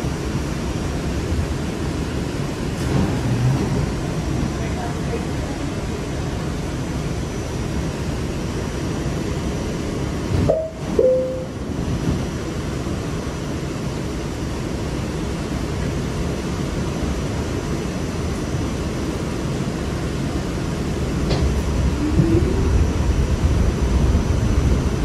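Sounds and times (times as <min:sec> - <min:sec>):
train car rumble and hiss: 0:00.0 - 0:25.0.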